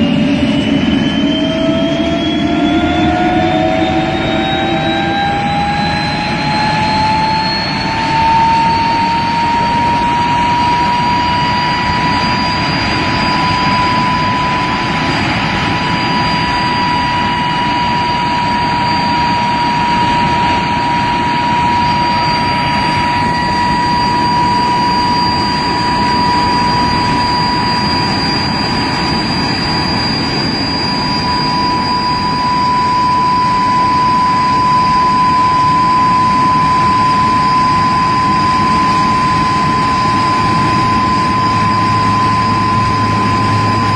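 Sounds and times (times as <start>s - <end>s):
jet engine high whine: 0.0s - 43.9s.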